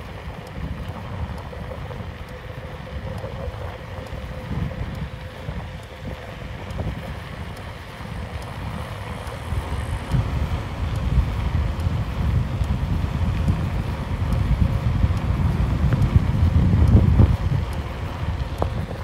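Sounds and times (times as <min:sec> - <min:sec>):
faint steady hum: 0:00.0 - 0:19.0
wind buffeting microphone: 0:00.0 - 0:19.0.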